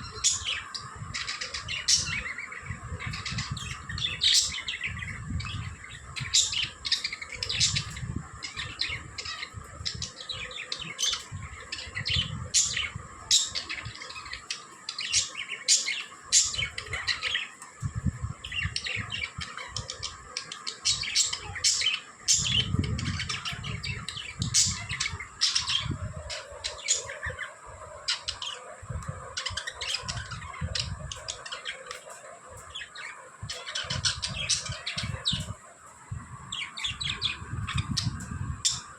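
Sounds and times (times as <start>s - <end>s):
budgerigars chirping: 0.0s - 17.7s, 18.4s - 35.6s, 36.6s - 38.9s.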